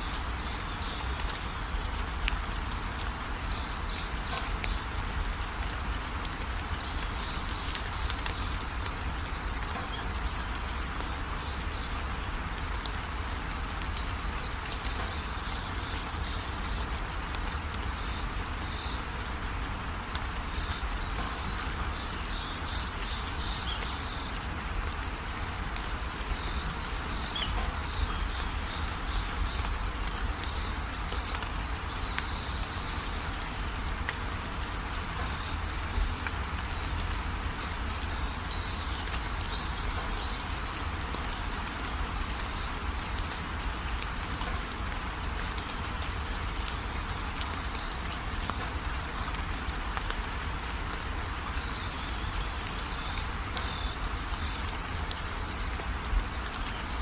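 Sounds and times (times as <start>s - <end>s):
small birds chirping: 0.0s - 50.2s
rain falling: 0.0s - 57.0s.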